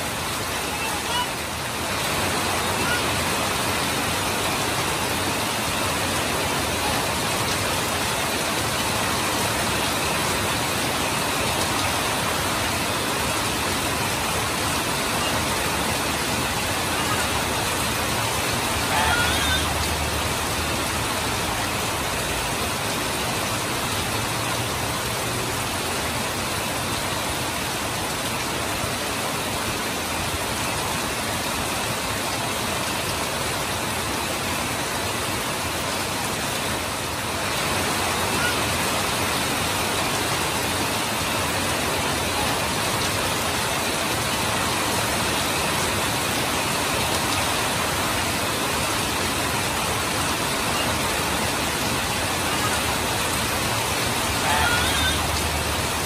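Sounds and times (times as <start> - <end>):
heavy rain pouring: 0.0 - 56.0
runoff streaming off roof: 0.0 - 56.0.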